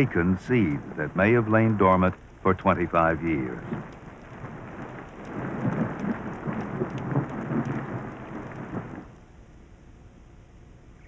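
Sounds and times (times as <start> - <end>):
low thunder rumbling: 0.0 - 9.2
rain splashing on dry ground: 0.0 - 9.2.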